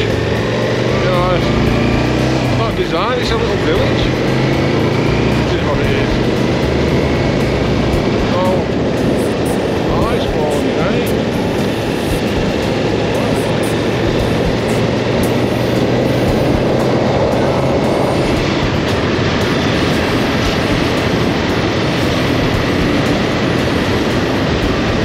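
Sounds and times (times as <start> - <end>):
motorcycle engine running: 0.0 - 25.0
wind on microphone: 0.0 - 25.0.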